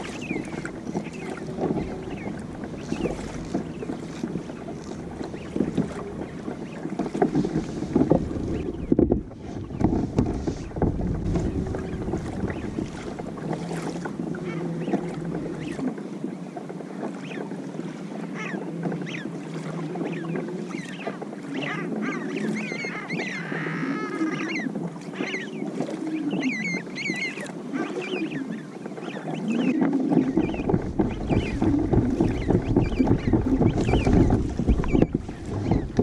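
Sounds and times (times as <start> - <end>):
birds calling: 0.0 - 16.0, 20.0 - 36.0
water washing around a kayak: 0.0 - 36.0
wind: 0.0 - 36.0.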